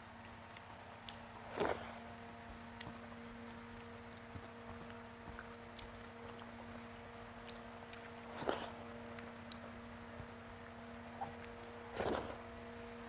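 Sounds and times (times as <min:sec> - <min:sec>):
steady low hum: 0:00.0 - 0:13.0
mouth smack and chewing: 0:00.2 - 0:03.1, 0:03.7 - 0:12.4.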